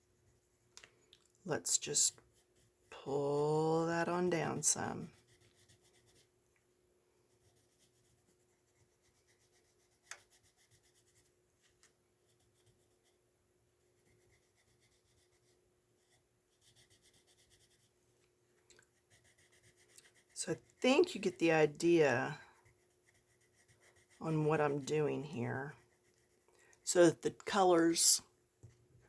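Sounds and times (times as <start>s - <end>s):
pencil scratching on paper: 0.0s - 0.7s, 1.7s - 6.4s, 7.3s - 18.1s, 18.9s - 27.7s.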